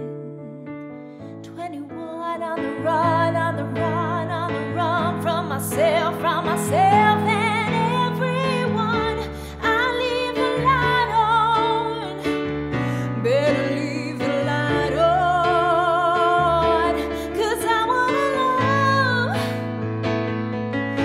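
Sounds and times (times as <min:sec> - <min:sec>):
woman singing with vibrato: 0:01.5 - 0:19.6.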